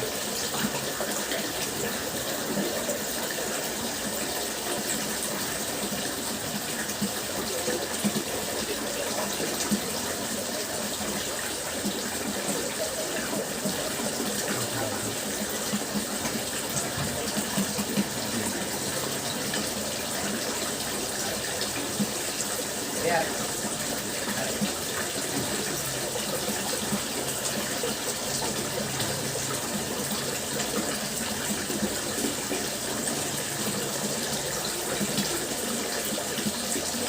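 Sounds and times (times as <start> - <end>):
water fountain splashing: 0.0 - 37.0.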